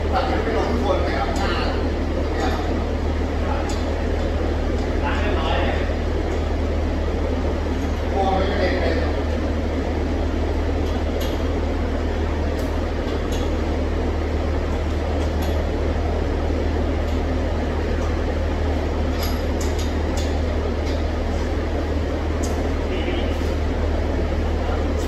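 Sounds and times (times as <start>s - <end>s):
rotary engine idling: 0.0s - 25.0s.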